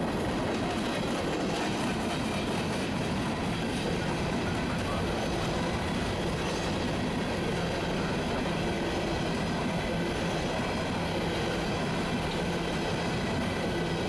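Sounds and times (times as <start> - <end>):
steel train wheels rolling on rail: 0.0 - 14.0.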